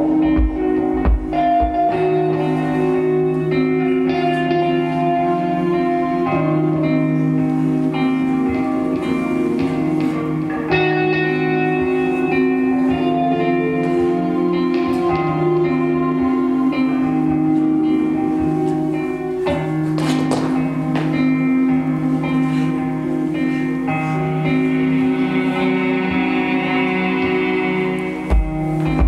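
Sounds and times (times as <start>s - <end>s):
guitar music: 0.0s - 29.0s.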